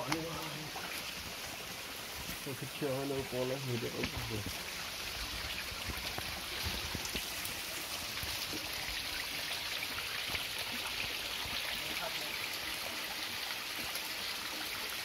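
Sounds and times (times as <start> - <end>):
waterfall splashing over rocks: 0.0 - 15.0.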